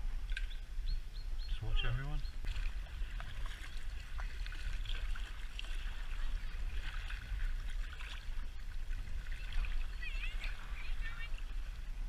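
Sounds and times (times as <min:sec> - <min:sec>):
wind buffeting microphone: 0:00.0 - 0:12.0
water lapping and splashing: 0:01.6 - 0:12.0.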